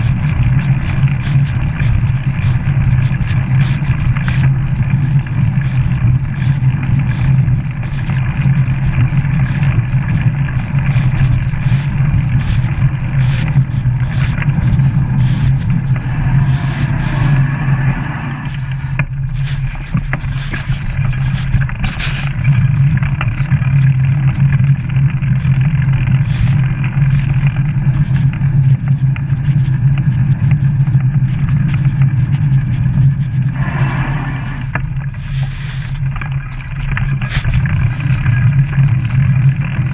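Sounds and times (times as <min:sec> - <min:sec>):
bike clicks and rattles: 0:00.0 - 0:17.6, 0:18.4 - 0:33.6, 0:34.7 - 0:39.9
bicycle tyres on tarmac: 0:00.0 - 0:39.9
wind rumble: 0:00.0 - 0:39.9.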